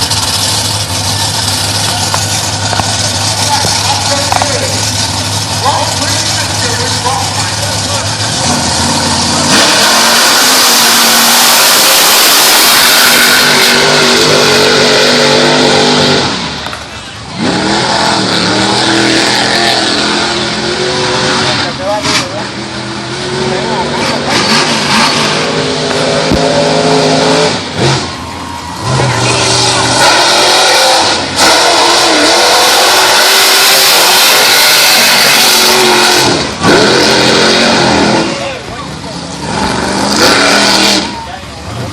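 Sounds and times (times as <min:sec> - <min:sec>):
spinning tyres hissing: 0:00.0 - 0:41.2
truck engine revving: 0:00.0 - 0:41.9.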